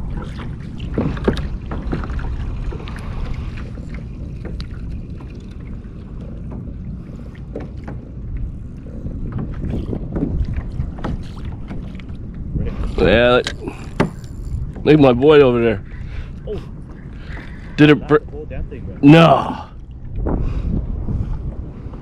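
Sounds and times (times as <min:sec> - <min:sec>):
water around a kayak: 0:00.0 - 0:22.0
wind buffeting microphone: 0:00.0 - 0:22.0.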